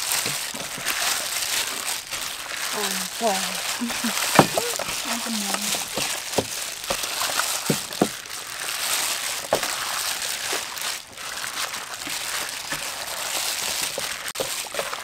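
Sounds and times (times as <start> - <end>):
plastic gloves crinkling: 0.0 - 15.0
wet sauce squishing: 0.0 - 15.0.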